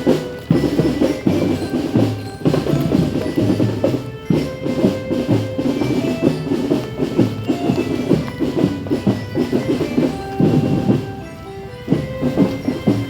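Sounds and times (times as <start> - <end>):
marching drum band playing: 0.0 - 13.0.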